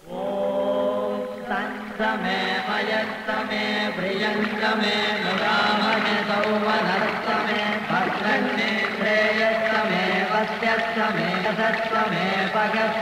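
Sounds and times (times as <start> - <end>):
voices chanting in unison: 0.0 - 13.0.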